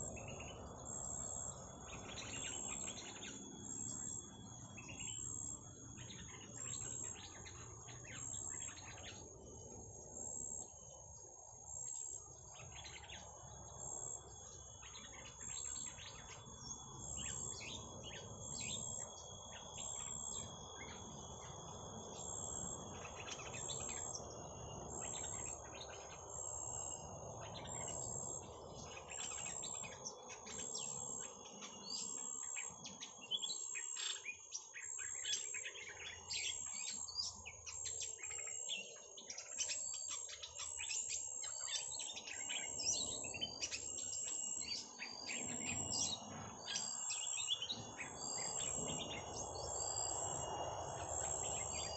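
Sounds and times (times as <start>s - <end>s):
high insect-like whine: 0.0s - 51.9s
small birds chirping: 0.0s - 51.9s.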